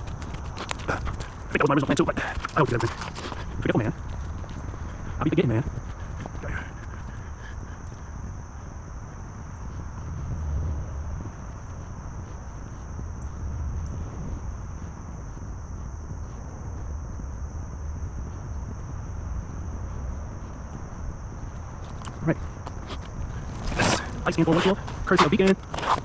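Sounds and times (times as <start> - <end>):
high-pitched insect drone: 0.0 - 26.0
wind rumbling on microphone: 0.0 - 26.0.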